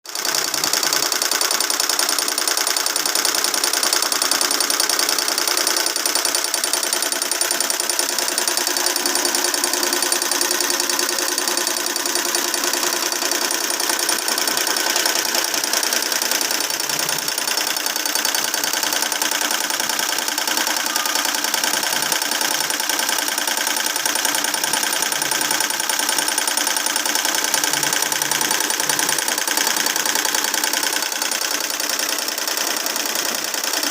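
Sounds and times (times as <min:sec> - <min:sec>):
embroidery machine stitching: 0:00.1 - 0:33.9.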